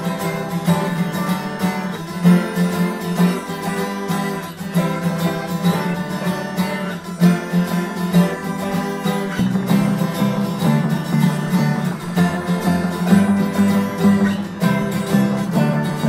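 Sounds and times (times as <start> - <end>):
plucked string instrument music: 0.0 - 16.0.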